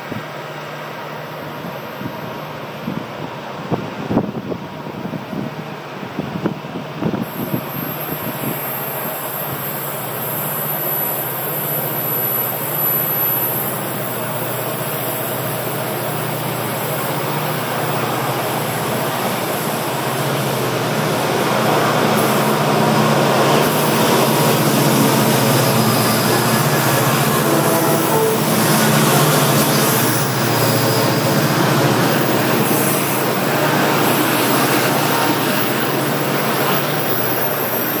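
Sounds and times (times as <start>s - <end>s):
diesel locomotive engine drone: 0.0s - 38.0s.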